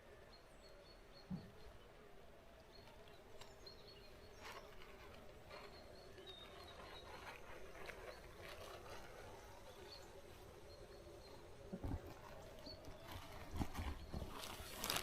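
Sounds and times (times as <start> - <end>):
faint high chirps and ticks: 0.0 - 15.0.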